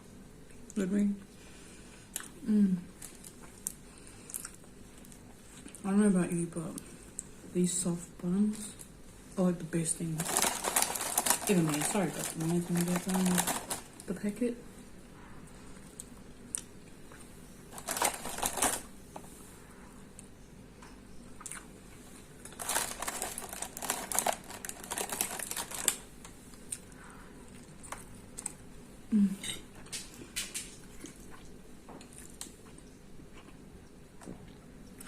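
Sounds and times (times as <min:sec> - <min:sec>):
eating and handling sounds: 0:00.1 - 0:35.0.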